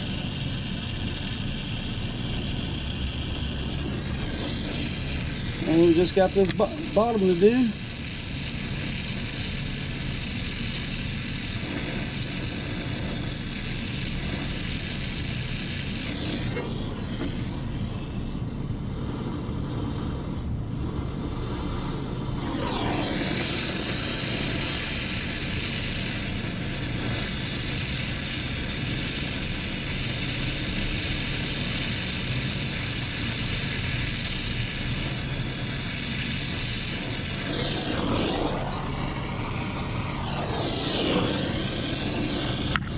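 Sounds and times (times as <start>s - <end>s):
brazing torch hissing: 0.0s - 42.9s
constant low hum: 0.0s - 42.9s.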